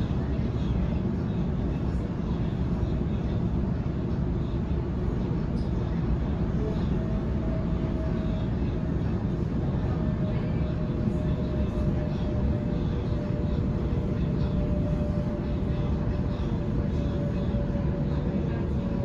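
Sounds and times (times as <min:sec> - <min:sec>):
faint steady whine: 0:00.0 - 0:19.0
train wheels rumbling on rail: 0:00.0 - 0:19.0.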